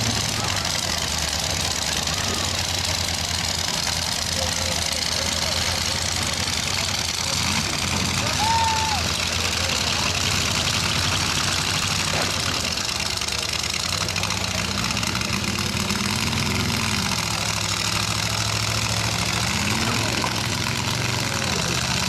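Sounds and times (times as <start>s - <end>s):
engine revving: 0.0s - 22.0s
pickup truck engines running: 0.0s - 22.0s.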